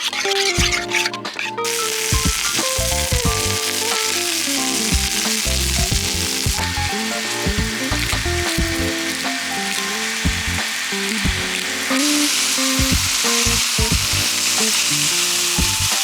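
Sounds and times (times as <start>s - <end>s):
food sizzling in hot pan: 0.0s - 16.0s
lo-fi background music: 0.0s - 16.0s.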